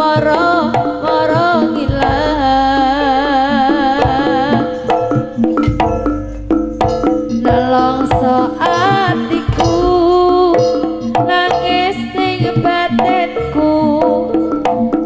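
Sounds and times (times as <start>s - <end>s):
wavering melody with heavy vibrato: 0.9s - 15.0s
held notes: 1.0s - 15.0s
hand drum strokes: 1.1s - 13.2s.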